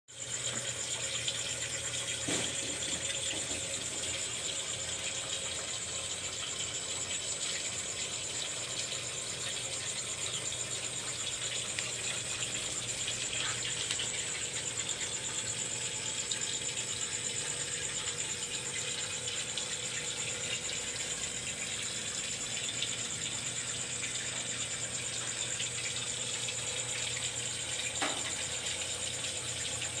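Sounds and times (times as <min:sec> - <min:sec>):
aquarium pump hum and whine: 0:00.1 - 0:30.0.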